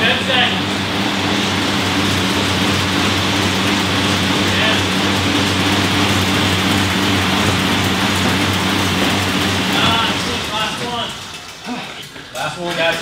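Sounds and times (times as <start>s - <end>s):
steady low hum: 0.0s - 12.5s
fan wheel whooshing: 0.0s - 13.0s.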